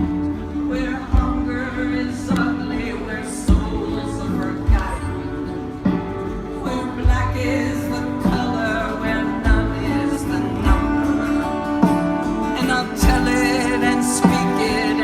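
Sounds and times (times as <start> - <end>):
plucked and strummed guitar: 0.0 - 15.0.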